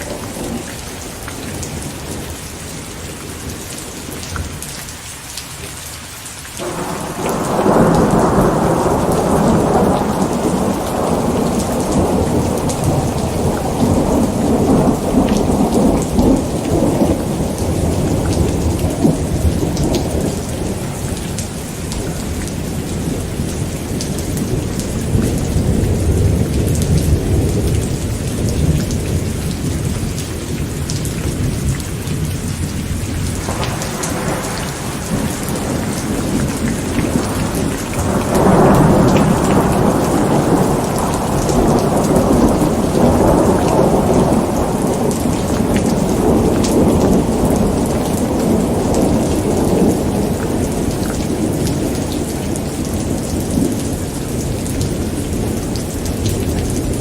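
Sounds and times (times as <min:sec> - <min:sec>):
thunder rumbling: 0:00.0 - 0:04.7, 0:06.6 - 0:57.0
steady rain: 0:00.0 - 0:57.0.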